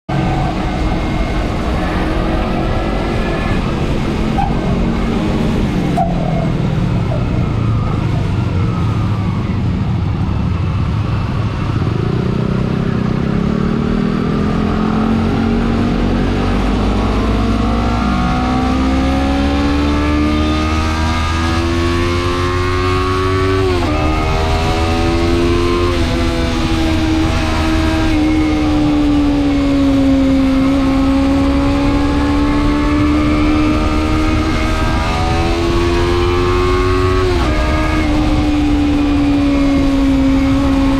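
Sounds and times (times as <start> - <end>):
wind noise rumble: 0.1 - 12.9, 13.5 - 40.9
motorcycle engine accelerating: 0.1 - 40.9.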